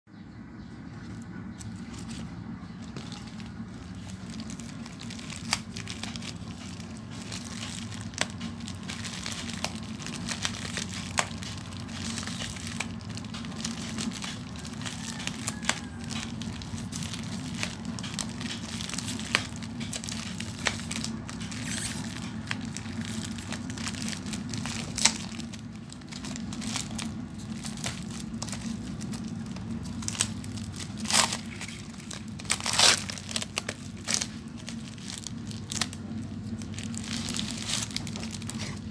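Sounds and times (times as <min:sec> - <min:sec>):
steady low hum: 0:00.1 - 0:38.9
packaging rustling and tearing: 0:01.1 - 0:38.9.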